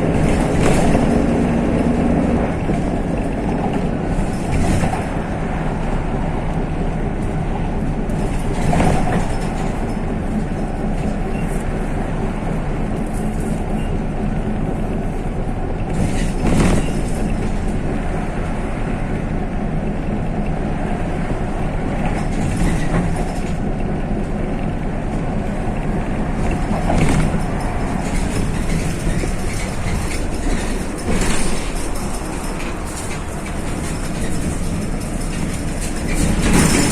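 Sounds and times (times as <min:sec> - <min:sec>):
bus body jolts: 0:00.0 - 0:36.9
bus engine and road drone: 0:00.0 - 0:36.9.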